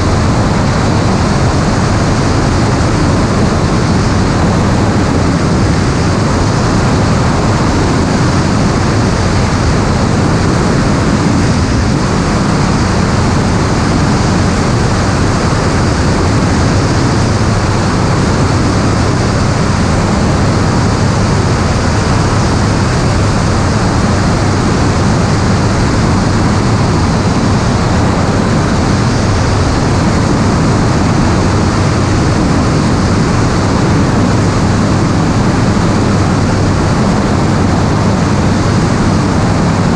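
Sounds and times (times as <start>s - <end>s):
aircraft roar in flight: 0.0s - 39.9s.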